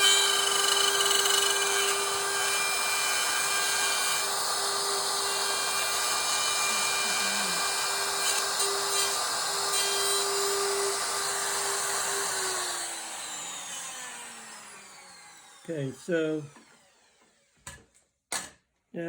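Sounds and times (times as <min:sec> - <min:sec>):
router cutting wood: 0:00.0 - 0:17.6.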